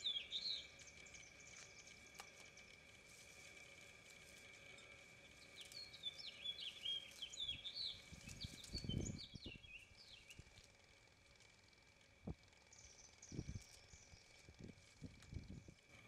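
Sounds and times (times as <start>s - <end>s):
faint high whine: 0.0s - 16.0s
songbirds chirping: 0.0s - 16.0s.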